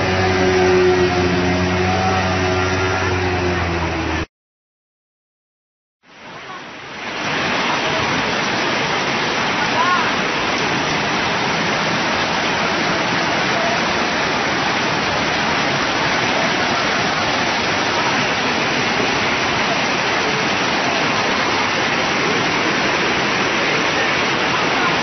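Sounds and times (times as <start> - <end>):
floodwater rushing: 0.0 - 4.3, 6.0 - 25.0.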